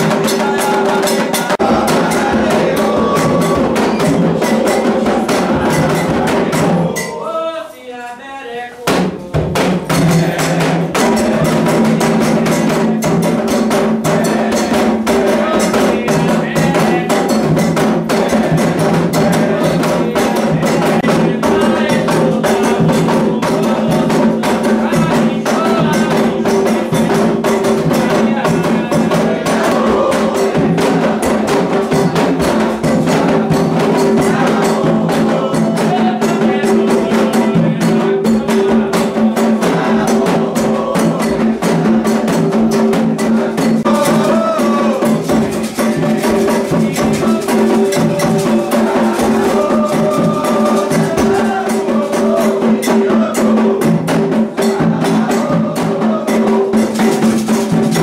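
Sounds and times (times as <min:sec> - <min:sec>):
hand drums playing fast rhythm: 0:00.0 - 0:07.3, 0:08.8 - 0:58.0
group of voices singing: 0:00.0 - 0:58.0.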